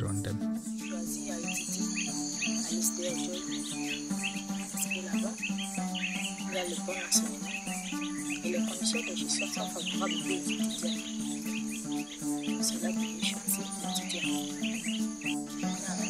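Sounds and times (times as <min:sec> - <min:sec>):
birds chirping: 0:00.0 - 0:16.0
insect chorus: 0:00.0 - 0:16.0
soft background music: 0:00.0 - 0:16.0.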